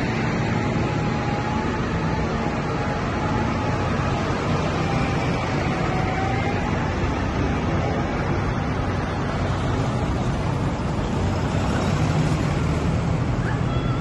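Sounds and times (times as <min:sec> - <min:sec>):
heavy vehicle engines running: 0:00.0 - 0:14.0
road noise: 0:00.0 - 0:14.0.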